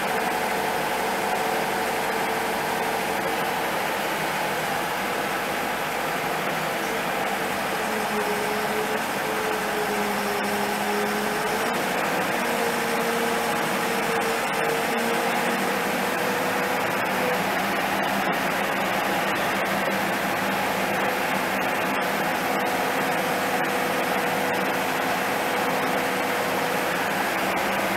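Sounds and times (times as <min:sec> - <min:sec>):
excavator engine running: 0:00.0 - 0:27.9.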